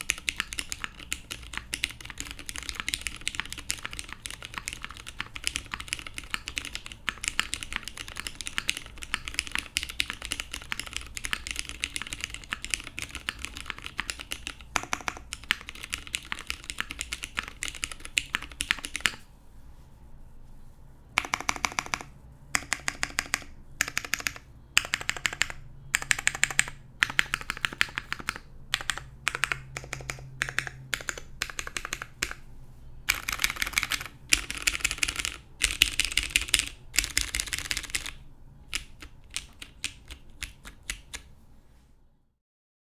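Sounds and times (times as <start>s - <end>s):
mechanical keyboard typing: 0.0s - 19.2s, 21.2s - 32.4s, 33.1s - 41.3s.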